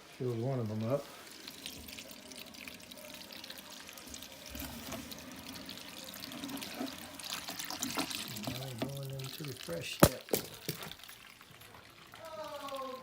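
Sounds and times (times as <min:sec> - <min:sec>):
water trickling into container: 0:00.0 - 0:13.0.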